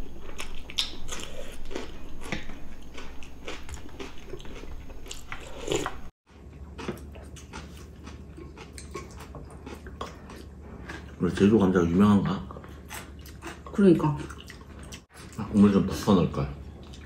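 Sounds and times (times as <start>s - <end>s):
chewing and lip smacks: 0.2s - 11.2s, 12.5s - 15.4s, 16.7s - 17.0s.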